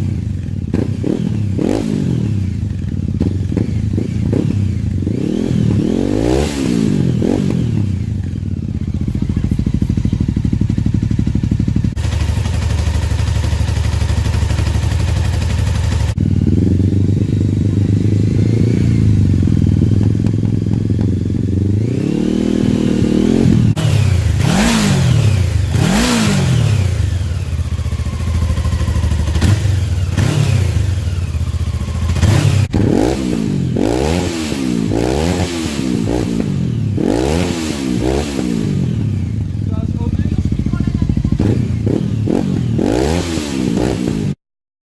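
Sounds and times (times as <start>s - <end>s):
motorcycle engine idling and revving: 0.0s - 44.4s.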